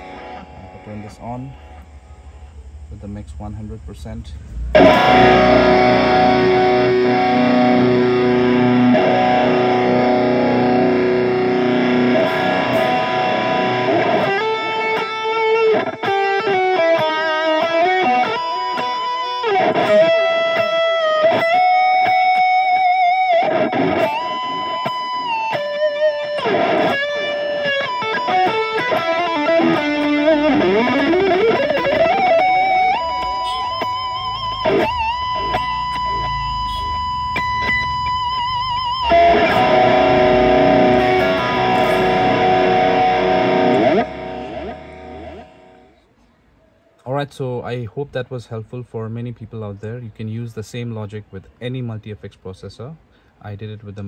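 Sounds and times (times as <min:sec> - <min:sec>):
electric guitar chord and lead: 0:00.0 - 0:02.9, 0:04.5 - 0:46.0.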